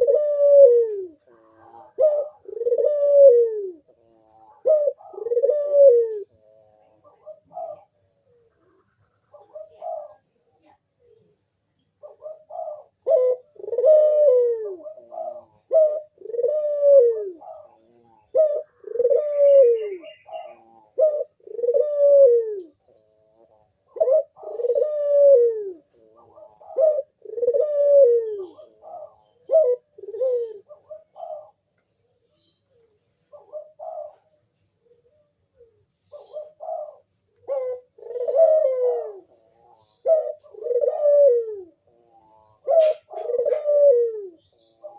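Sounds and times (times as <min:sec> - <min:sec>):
dove cooing: 0:00.0 - 0:11.4, 0:12.0 - 0:44.9.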